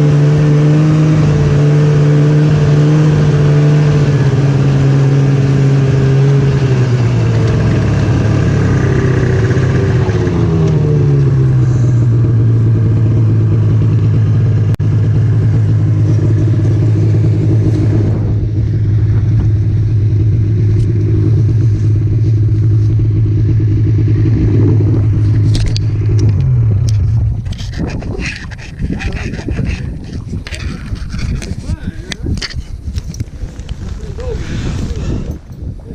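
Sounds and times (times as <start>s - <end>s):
snowmobile engine running: 0.0s - 35.9s.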